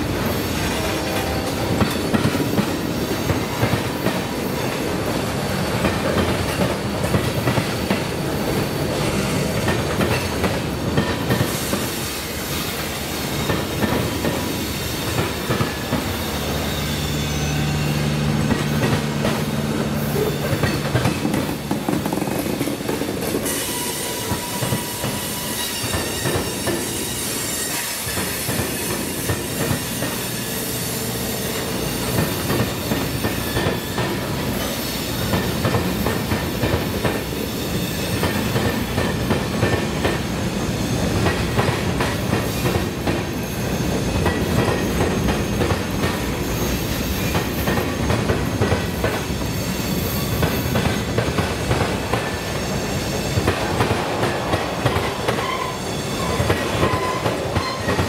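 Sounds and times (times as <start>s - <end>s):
freight train cars rumbling past: 0.0s - 58.0s.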